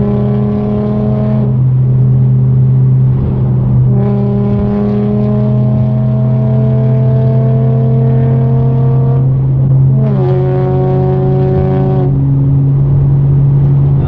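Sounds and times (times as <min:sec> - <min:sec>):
car engine droning under load: 0:00.0 - 0:14.0.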